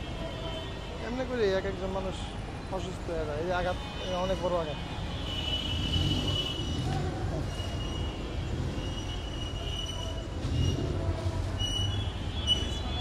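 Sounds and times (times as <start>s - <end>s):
rumble of passing vehicles: 0.0s - 13.0s.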